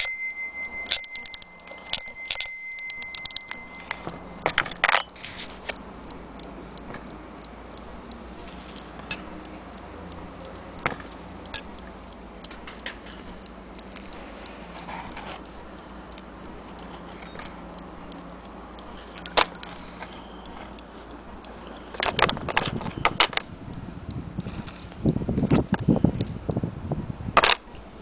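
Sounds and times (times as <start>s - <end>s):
light metallic clicks and taps: 3.2s - 26.4s.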